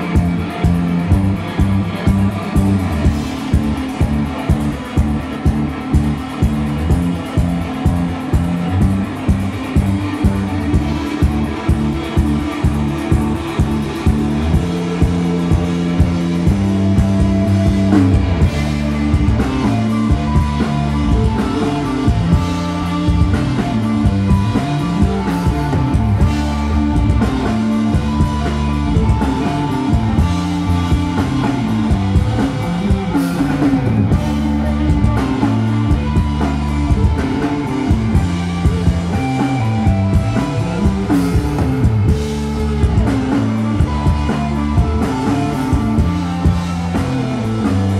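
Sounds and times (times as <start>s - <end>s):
bass guitar: 0.0s - 47.9s
drum kit: 0.0s - 47.9s
electric guitar: 0.0s - 47.9s.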